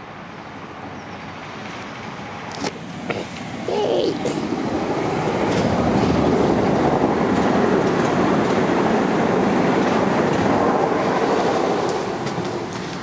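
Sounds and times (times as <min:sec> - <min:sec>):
train wheels on rails: 0:00.8 - 0:13.0.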